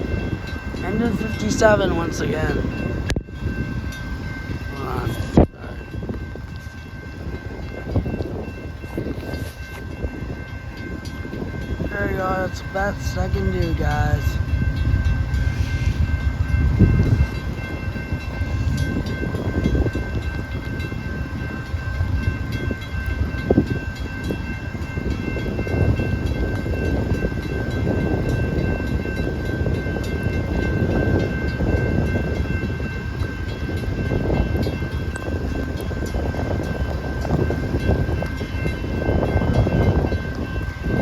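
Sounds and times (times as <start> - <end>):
diesel locomotive rumbling: 0.0 - 41.0.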